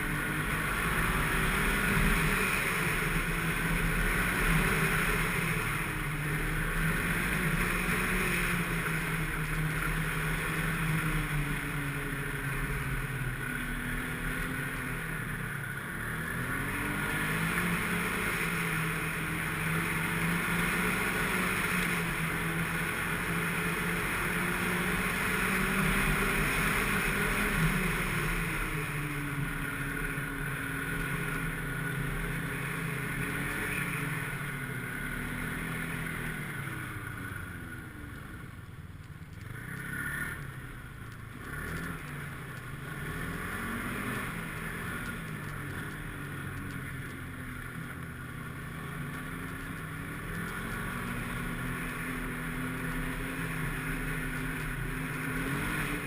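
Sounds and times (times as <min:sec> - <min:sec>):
snowmobile engine running: 0:00.0 - 0:38.7, 0:39.4 - 0:56.0.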